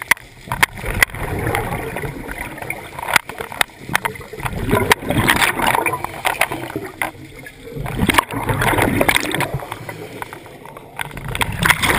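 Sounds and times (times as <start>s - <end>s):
air bubbles rushing underwater: 0.0s - 11.9s.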